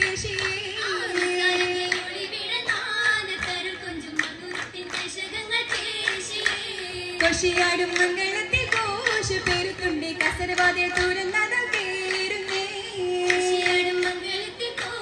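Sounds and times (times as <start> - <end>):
hand claps: 0.0 - 15.0
women singing together: 0.0 - 15.0.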